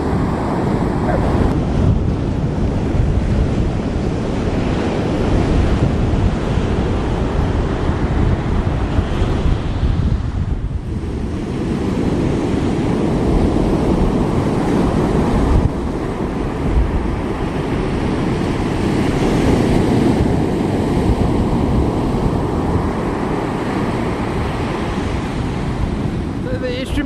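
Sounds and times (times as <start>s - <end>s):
ocean surf breaking: 0.0s - 27.0s
wind on microphone: 0.0s - 27.0s.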